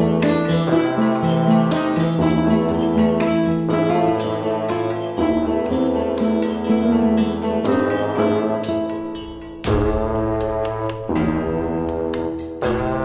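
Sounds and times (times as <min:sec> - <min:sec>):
plucked guitar instrumental music: 0:00.0 - 0:13.0.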